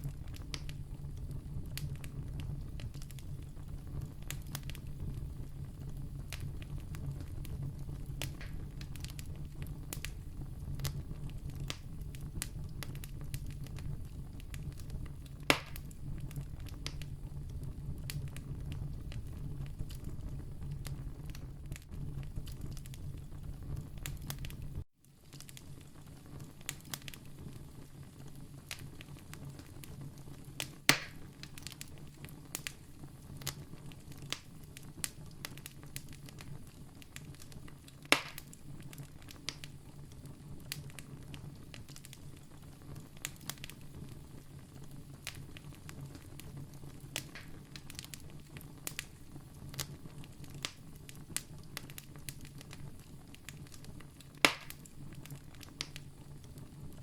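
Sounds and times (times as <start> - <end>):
campfire crackling: 0.0 - 57.0
fire snapping: 0.0 - 57.0.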